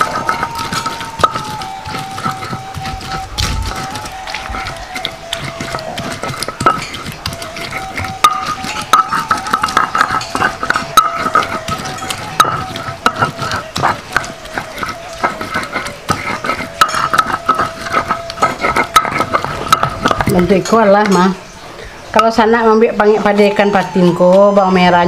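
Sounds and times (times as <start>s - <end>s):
stone grinding on stone: 0.0s - 21.2s
stone knocking: 0.0s - 21.2s.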